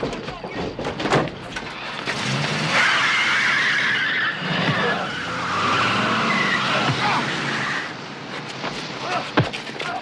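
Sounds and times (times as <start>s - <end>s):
car tyres squealing: 1.5s - 10.0s.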